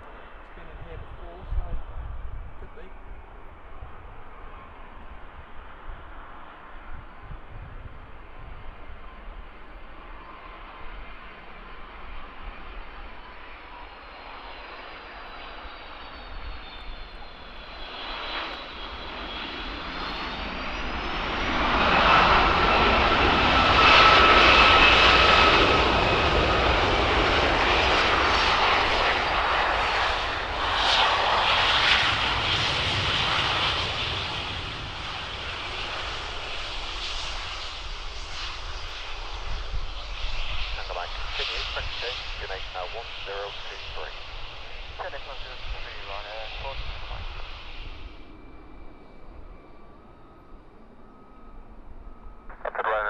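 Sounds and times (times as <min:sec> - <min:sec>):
aircraft engine passing: 0:00.0 - 0:53.0.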